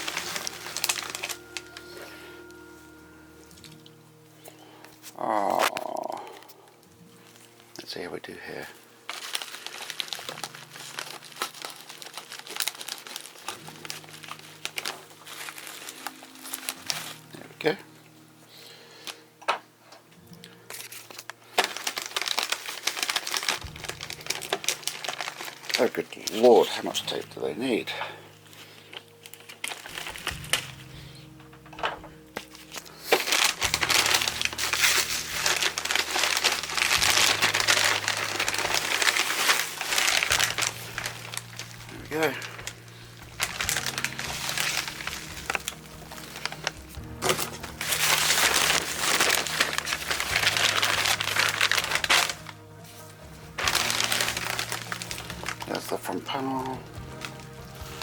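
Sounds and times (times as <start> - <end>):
plastic packaging crinkling: 0.0 - 17.9, 20.3 - 58.0.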